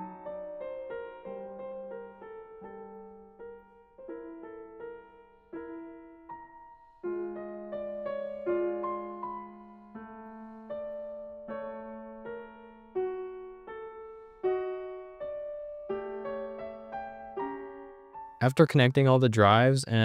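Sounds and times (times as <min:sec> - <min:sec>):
slow piano music: 0:00.0 - 0:19.7.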